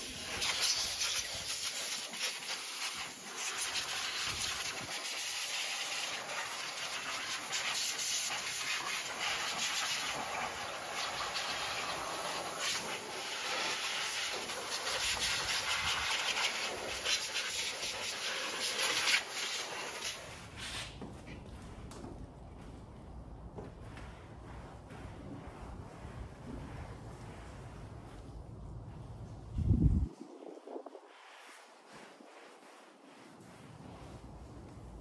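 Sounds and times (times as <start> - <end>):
scrubbing on plastic: 0.0 - 29.5, 30.8 - 35.0.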